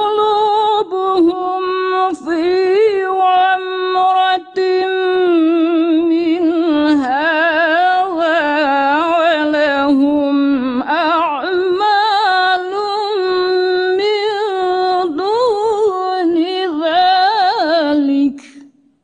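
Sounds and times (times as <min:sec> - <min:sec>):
woman reciting melodically: 0:00.0 - 0:18.7.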